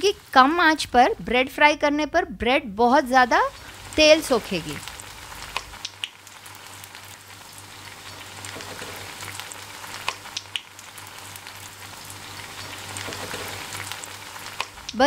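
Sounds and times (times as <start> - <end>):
bread sizzling in oil: 0.0 - 1.7, 2.8 - 15.0.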